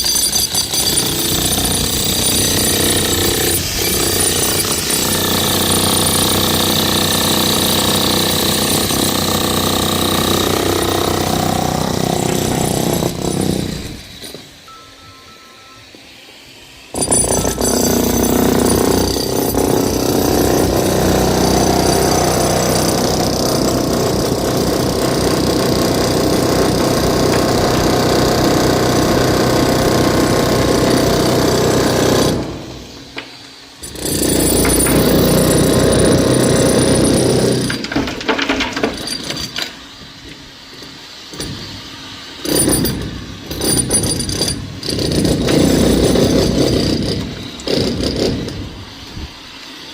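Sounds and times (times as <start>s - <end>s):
demolition hammer chiselling concrete: 0.0s - 14.5s, 16.9s - 33.1s, 33.8s - 39.6s, 42.4s - 48.8s.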